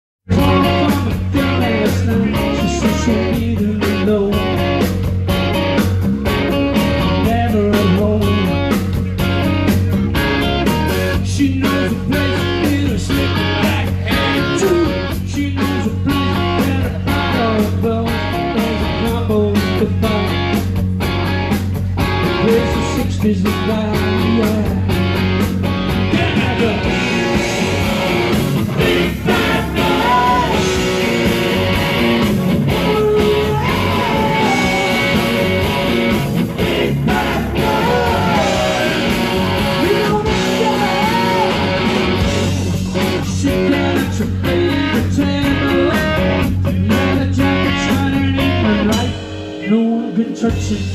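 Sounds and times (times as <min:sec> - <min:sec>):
bass: 0:00.0 - 0:50.9
drums: 0:00.2 - 0:50.9
electric guitar: 0:00.3 - 0:50.9.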